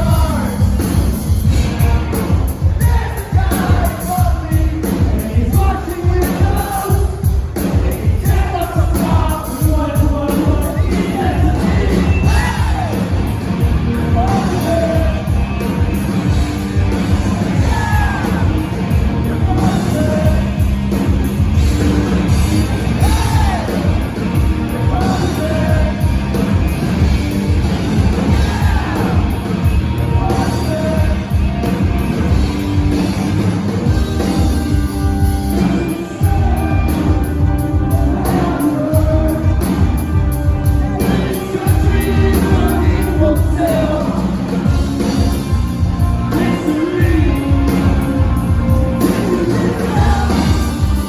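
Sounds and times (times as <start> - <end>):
lead vocal singing: 0.0 - 32.4, 34.2 - 51.0
rock band playing live: 0.0 - 51.0
steady drums: 0.0 - 51.0.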